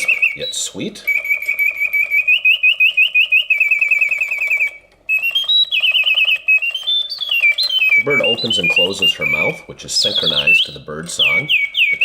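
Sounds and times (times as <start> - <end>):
mechanical bird whistle trilling: 0.0 - 12.0.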